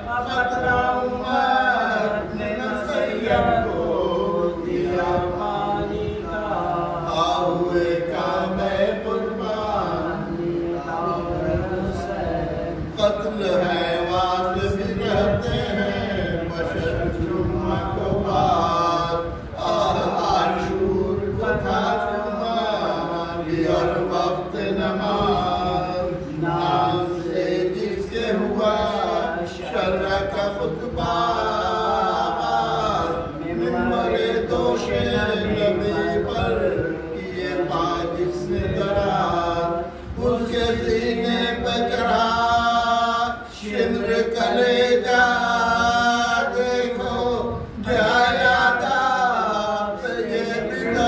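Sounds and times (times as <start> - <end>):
man chanting slow melody: 0.0 - 51.0.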